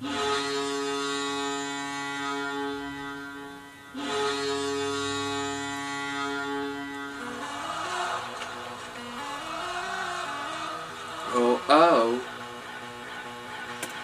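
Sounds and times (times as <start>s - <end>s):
arena goal horn blasts: 0.0s - 13.6s.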